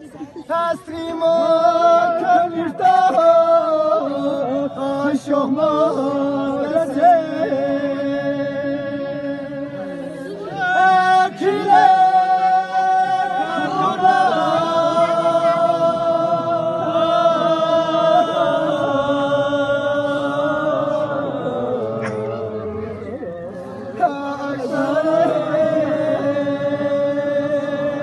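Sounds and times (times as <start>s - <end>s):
person chanting unaccompanied: 0.0s - 28.0s.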